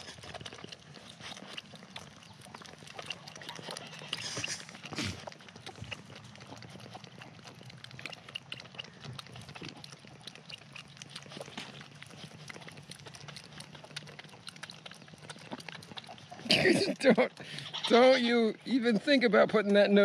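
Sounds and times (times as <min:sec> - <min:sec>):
goat kid suckling bottle: 0:00.0 - 0:20.0.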